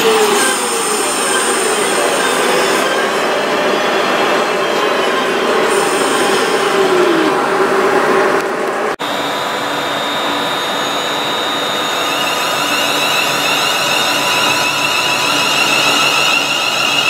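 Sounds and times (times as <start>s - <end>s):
electric train equipment whine: 0.0s - 17.0s
train wheels and engine rumbling: 0.0s - 17.0s.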